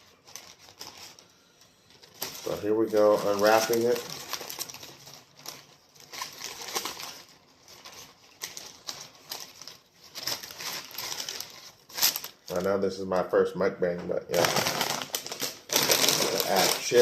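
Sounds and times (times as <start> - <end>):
sandwich wrapper crinkling: 0.0 - 12.9, 14.3 - 17.0.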